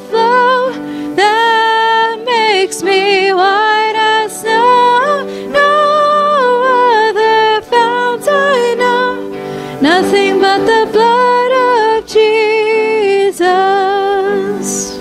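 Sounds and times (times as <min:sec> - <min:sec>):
person singing hymn-like melody: 0:00.0 - 0:15.0
soft instrumental accompaniment: 0:00.0 - 0:15.0.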